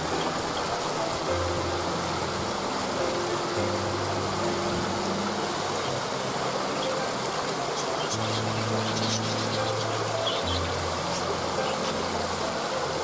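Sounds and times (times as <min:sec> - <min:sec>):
low held notes: 0:00.0 - 0:13.0
waterfall rushing water: 0:00.0 - 0:13.0.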